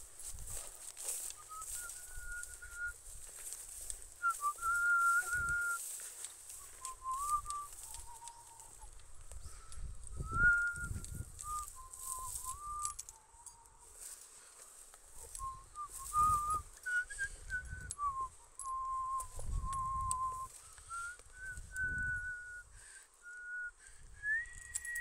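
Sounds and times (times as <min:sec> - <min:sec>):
person whistling a slow tune: 0:00.5 - 0:13.8, 0:15.2 - 0:25.0.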